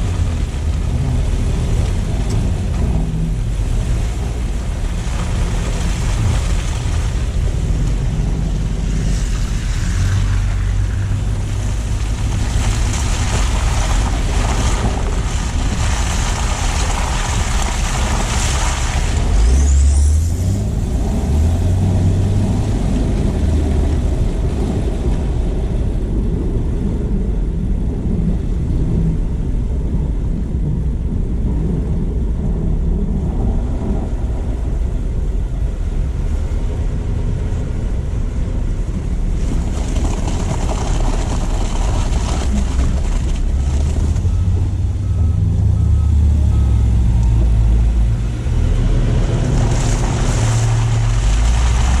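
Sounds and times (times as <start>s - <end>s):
low engine rumble: 0.0s - 52.0s
tyre and road noise: 0.0s - 52.0s.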